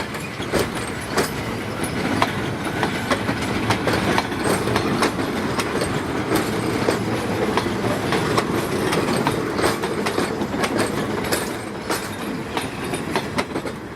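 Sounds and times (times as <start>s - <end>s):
train carriages rumbling: 0.0s - 13.9s
wheels clacking over rail joints: 0.0s - 13.9s.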